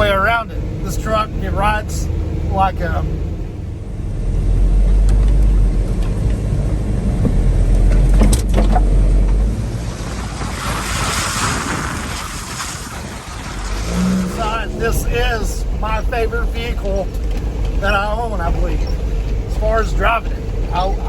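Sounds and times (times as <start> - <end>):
truck engine deep rumble: 0.0 - 21.0.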